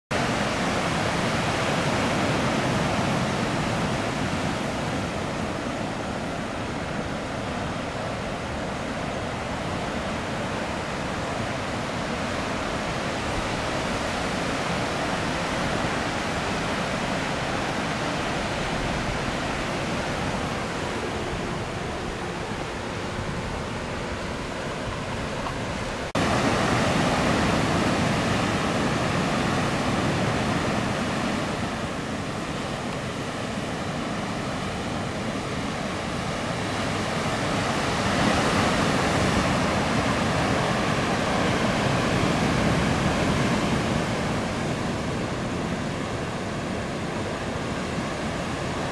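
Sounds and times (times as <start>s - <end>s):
waves breaking in surf: 0.1s - 48.9s.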